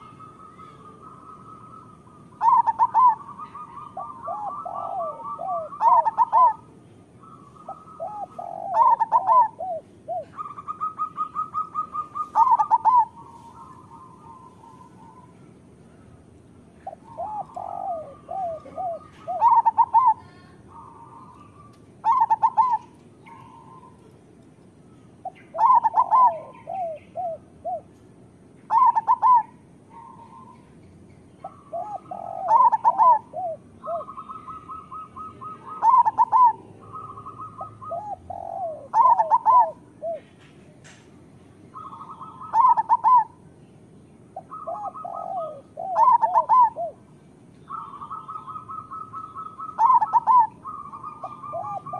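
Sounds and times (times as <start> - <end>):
doves cooing: 0.0 - 24.2, 24.8 - 28.0, 28.7 - 41.0, 41.6 - 43.5, 44.4 - 51.9.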